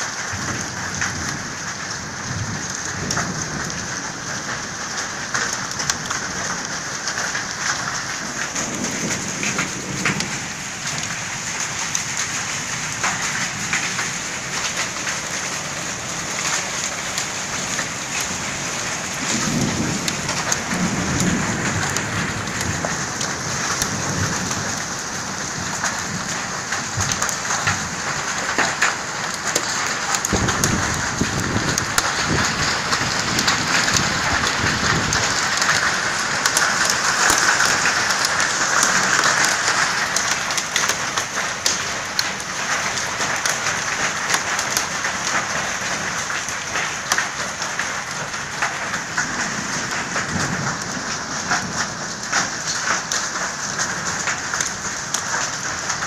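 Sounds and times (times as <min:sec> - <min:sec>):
heavy rain pouring: 0:00.0 - 0:56.0
low thunder rumbles: 0:00.3 - 0:40.5, 0:48.0 - 0:55.6.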